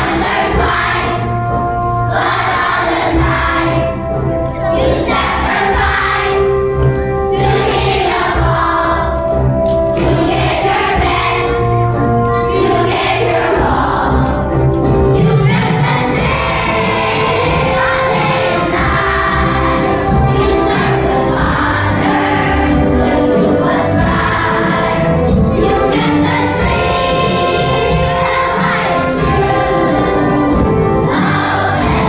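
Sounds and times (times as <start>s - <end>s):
children's choir singing: 0.0s - 32.0s
instrumental accompaniment: 0.0s - 32.0s.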